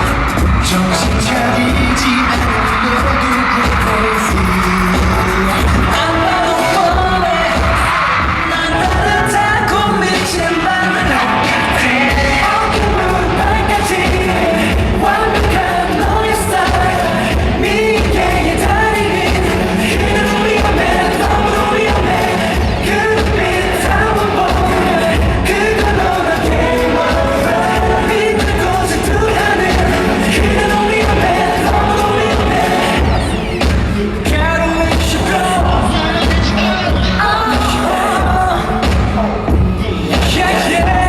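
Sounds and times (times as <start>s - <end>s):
band with driving beat: 0.0s - 41.0s
male singer: 0.0s - 41.0s.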